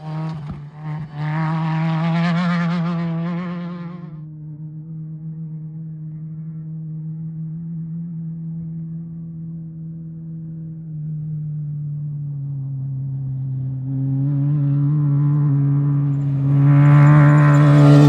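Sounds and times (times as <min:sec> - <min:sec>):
off-road vehicle engine approaching: 0:00.0 - 0:18.0.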